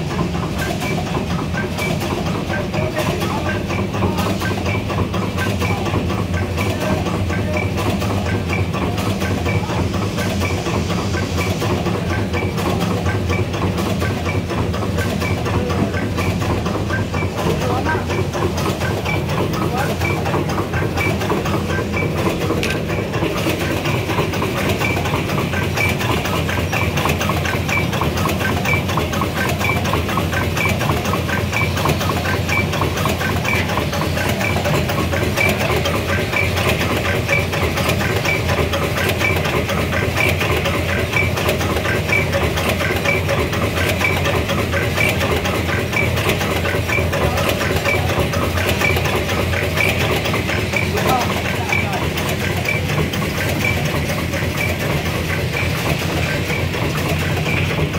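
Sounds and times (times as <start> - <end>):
machine mechanical clatter: 0.0 - 57.9.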